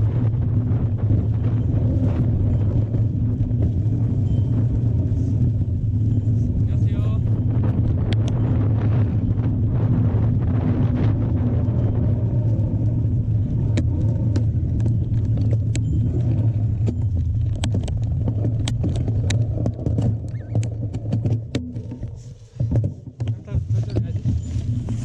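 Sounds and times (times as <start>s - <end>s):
bike clicks and rattles: 0.0s - 25.0s
wind buffeting microphone: 0.0s - 25.0s.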